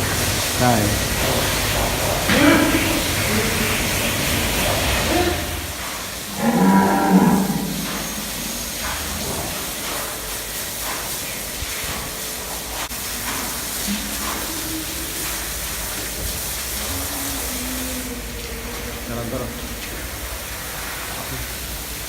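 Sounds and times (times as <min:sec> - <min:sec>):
water spraying from a hose: 0:00.0 - 0:22.0.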